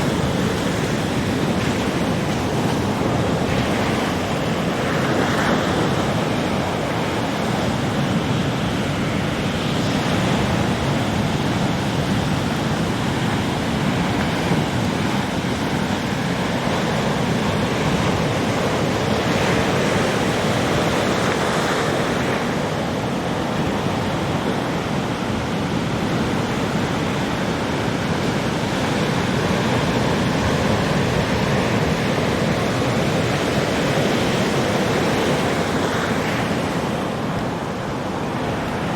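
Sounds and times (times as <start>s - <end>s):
ocean waves breaking: 0.0s - 38.9s
wind noise on microphone: 0.0s - 38.9s.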